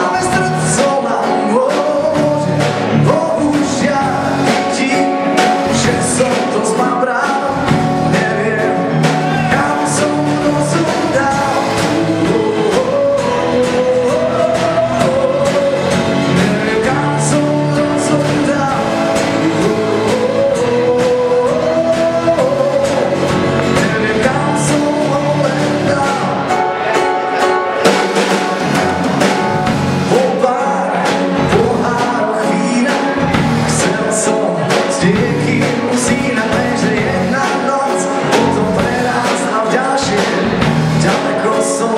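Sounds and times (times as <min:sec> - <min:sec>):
drum kit: 0:00.0 - 0:41.9
man singing: 0:00.0 - 0:41.9.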